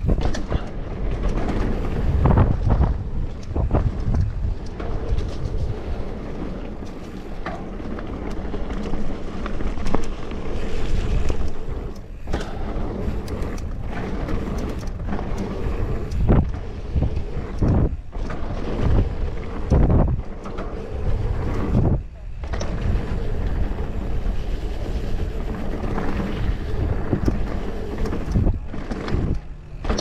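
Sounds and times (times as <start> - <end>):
bike rattling clicks and knocks: 0.0 - 30.0
tyres on loose dirt: 0.0 - 30.0
wind buffeting microphone: 0.0 - 30.0.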